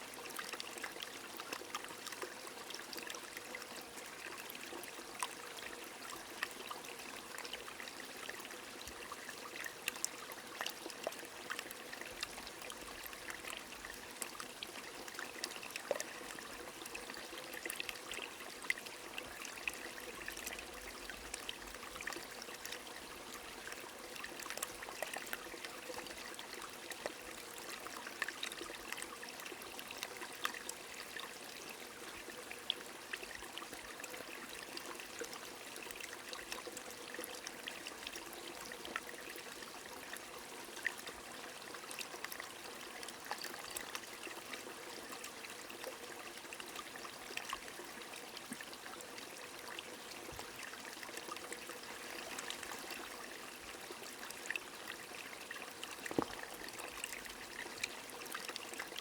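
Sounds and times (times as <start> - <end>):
stream running over stones: 0.0 - 59.0.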